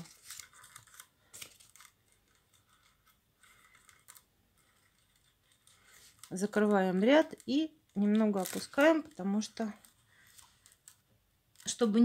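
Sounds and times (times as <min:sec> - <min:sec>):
paper tubes rustling and clicking: 0:00.0 - 0:12.0.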